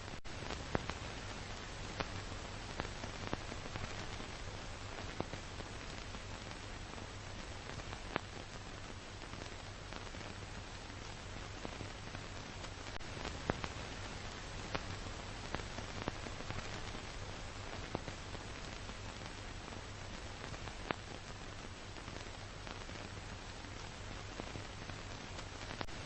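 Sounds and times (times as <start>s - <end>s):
film surface hiss: 0.0s - 26.0s.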